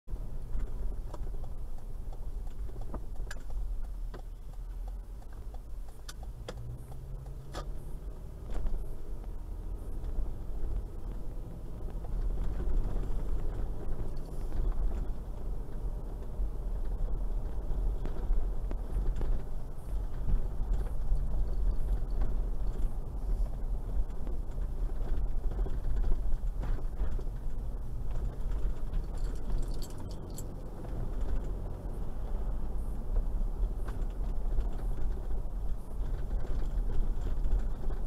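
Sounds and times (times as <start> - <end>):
low engine and road rumble: 0.0 - 38.0.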